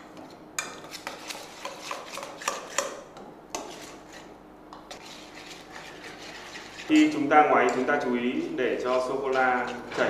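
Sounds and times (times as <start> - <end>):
whisk scraping metal bowl: 0.6 - 2.9, 3.5 - 10.0.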